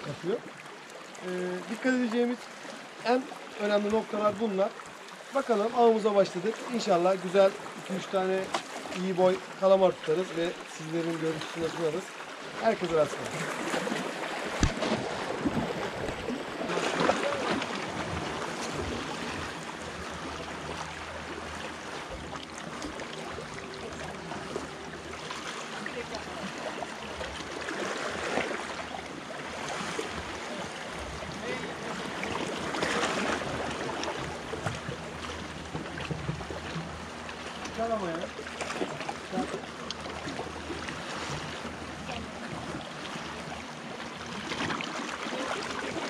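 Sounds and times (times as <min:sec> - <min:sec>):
waves splashing against rocks: 0:00.0 - 0:46.0.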